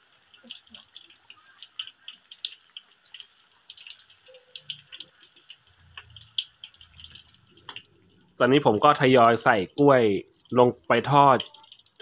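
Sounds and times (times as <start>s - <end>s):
banana frying in hot oil: 0.0s - 12.0s.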